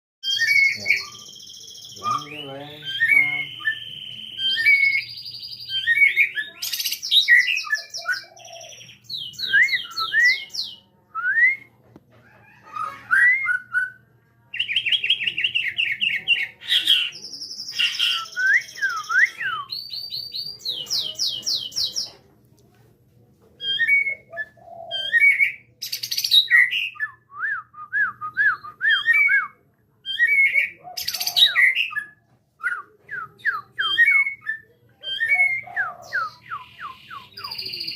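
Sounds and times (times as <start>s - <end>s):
bird whistling song with trills: 0.2s - 11.7s, 16.6s - 22.1s, 23.6s - 29.5s, 30.1s - 37.9s.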